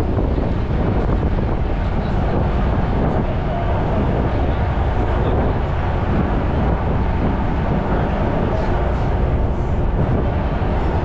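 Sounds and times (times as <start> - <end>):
ferry engine rumble: 0.0 - 11.0
water noise: 0.0 - 11.0
wind on microphone: 0.0 - 11.0.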